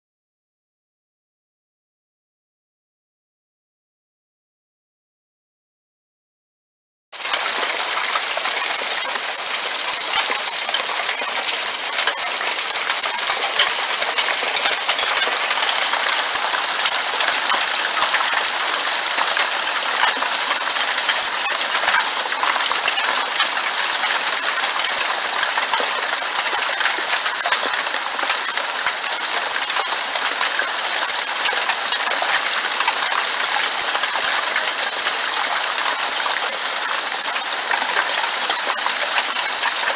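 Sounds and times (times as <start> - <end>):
hail pelting a hard surface: 7.2 - 39.9.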